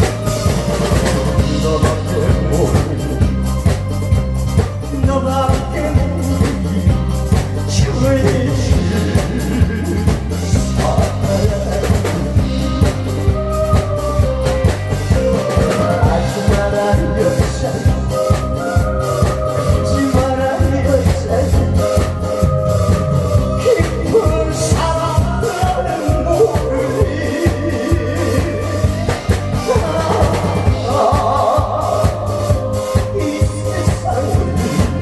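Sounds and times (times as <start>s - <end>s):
drum kit beat: 0.0s - 35.0s
upbeat song with sung melody: 0.0s - 35.0s.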